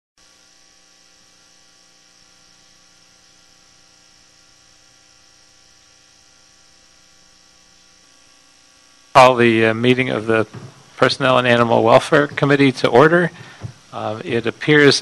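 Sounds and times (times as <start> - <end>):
electrical mains hum: 0.2 - 15.0
faint high hiss: 0.2 - 15.0.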